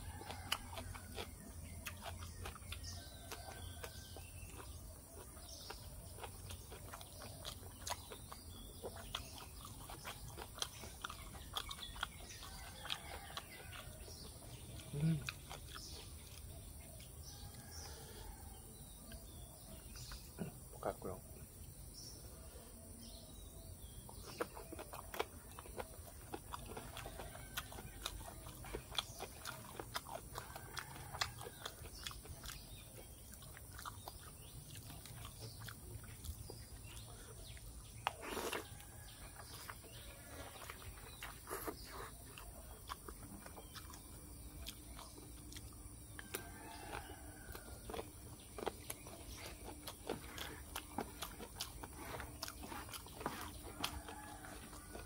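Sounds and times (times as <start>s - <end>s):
wet chewing and lip smacking: 0.0s - 20.7s, 23.0s - 55.0s.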